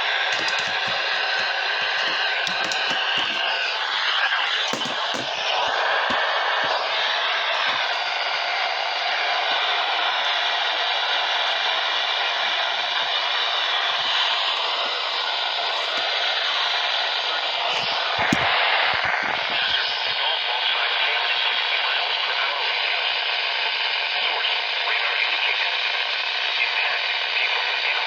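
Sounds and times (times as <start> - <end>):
radio static hiss: 0.0 - 10.4, 11.5 - 25.9.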